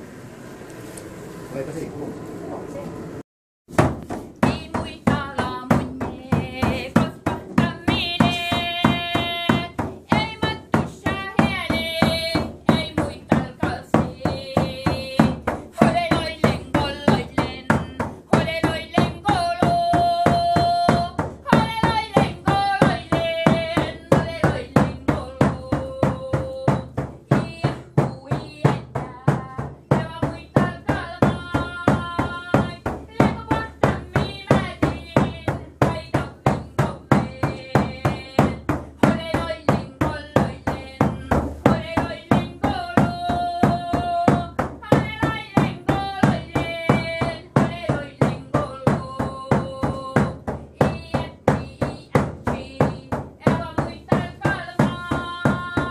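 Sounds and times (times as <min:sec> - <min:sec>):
hand-beaten frame drum: 0:03.7 - 0:55.9.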